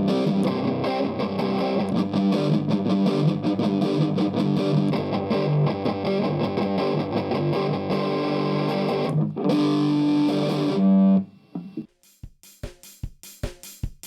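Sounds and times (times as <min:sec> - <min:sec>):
distorted electric guitar: 0:00.0 - 0:11.9.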